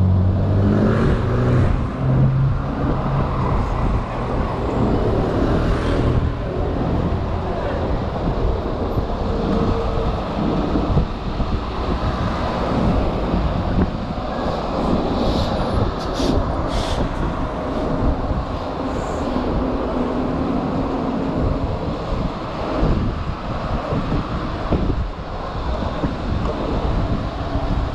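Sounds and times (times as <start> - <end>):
city traffic noise: 0.0 - 27.9
wind on microphone: 0.0 - 27.9.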